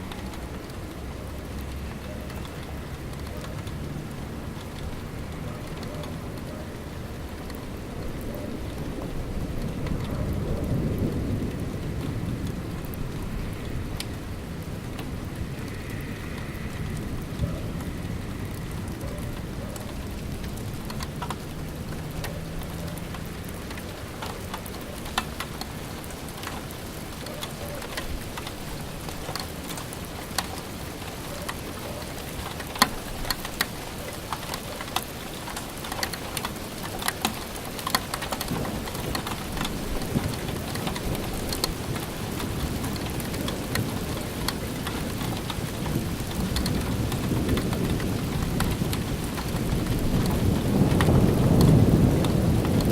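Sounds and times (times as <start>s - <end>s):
raindrops ticking on a surface: 0.0s - 52.9s
steady rainfall: 0.0s - 52.9s
rolling thunder: 6.2s - 34.1s, 37.6s - 52.9s.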